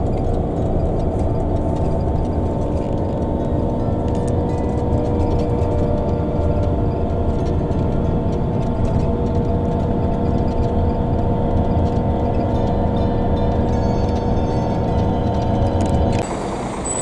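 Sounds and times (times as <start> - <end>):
road rumble: 0.0 - 17.0
vehicle engine drone: 0.0 - 17.0.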